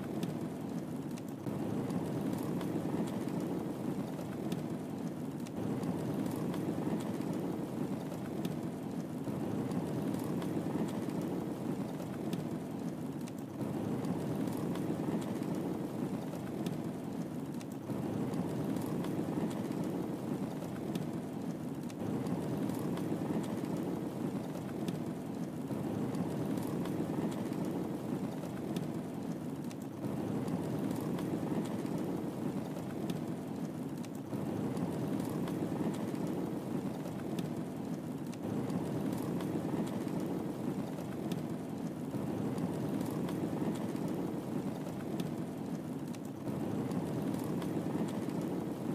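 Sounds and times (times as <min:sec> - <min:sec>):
fire crackling and popping: 0:00.0 - 0:48.9
fire flames rushing: 0:00.0 - 0:48.9.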